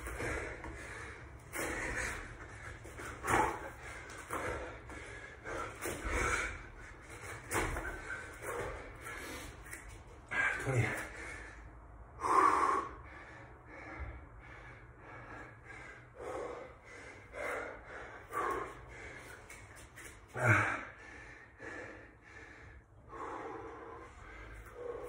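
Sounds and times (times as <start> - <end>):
man breathing hard: 0.0 - 25.0.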